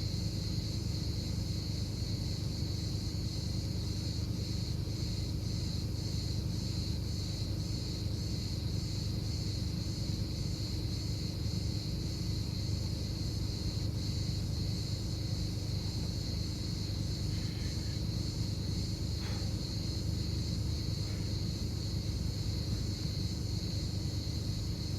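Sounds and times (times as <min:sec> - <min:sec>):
insects chirping: 0:00.0 - 0:24.9.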